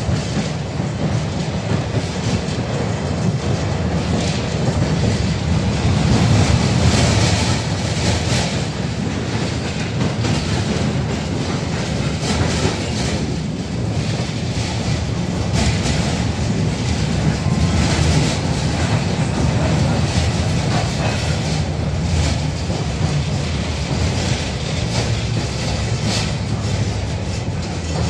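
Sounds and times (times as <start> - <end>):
tram rumbling: 0.0 - 28.0
wheels knocking on rail joints: 0.0 - 28.0.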